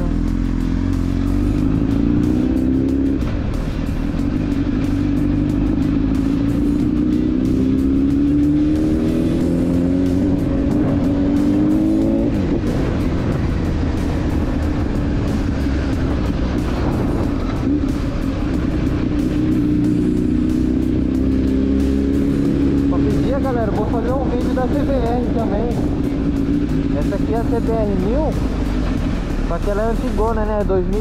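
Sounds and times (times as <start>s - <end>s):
motorcycle engine revving: 0.0s - 31.0s
rock music: 0.0s - 31.0s.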